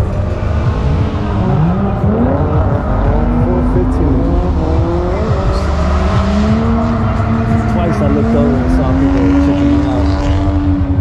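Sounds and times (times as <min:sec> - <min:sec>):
car engines revving: 0:00.0 - 0:11.0
steady low rumble: 0:00.0 - 0:11.0.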